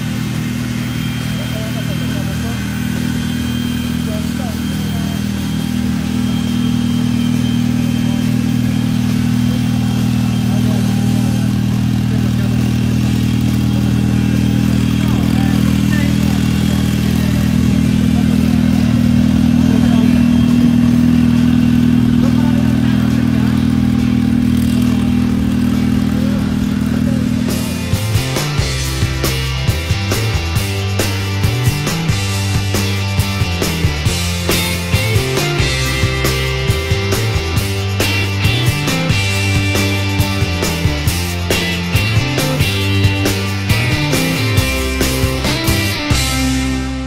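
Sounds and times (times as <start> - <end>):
race car engine idling: 0.0 - 47.0.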